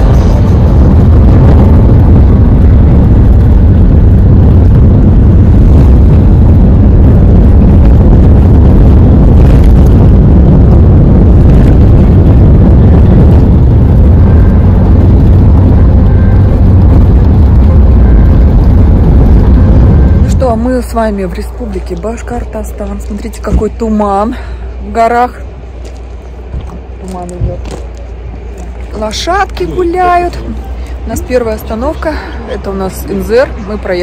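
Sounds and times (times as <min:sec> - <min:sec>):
vehicle road noise: 0:00.0 - 0:34.0.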